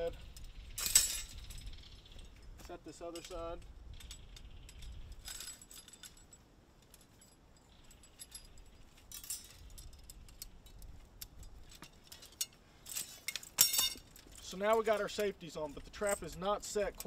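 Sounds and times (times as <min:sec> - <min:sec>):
metal trap clinking and rattling: 0:00.1 - 0:17.0.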